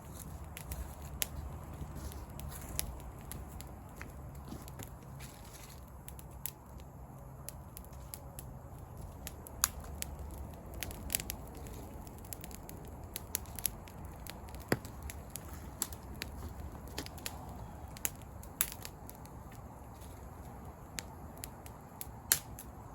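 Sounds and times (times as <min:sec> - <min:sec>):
campfire crackling and popping: 0:00.0 - 0:22.9
low steady rumble: 0:00.0 - 0:22.9.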